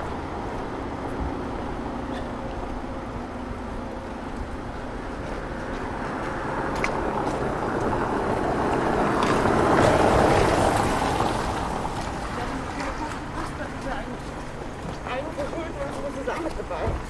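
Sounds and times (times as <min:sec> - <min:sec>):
car passing on wet road: 0:00.1 - 0:16.8.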